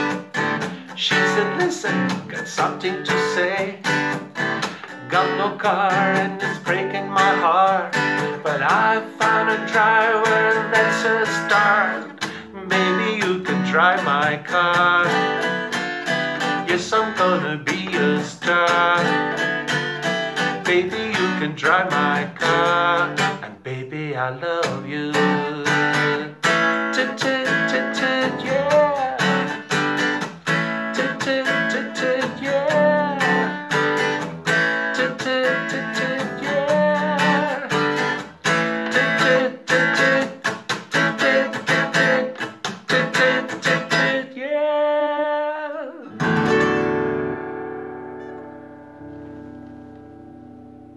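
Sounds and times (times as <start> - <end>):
man singing: 0.0 - 29.8, 30.5 - 46.4
acoustic guitar strumming: 0.0 - 50.9.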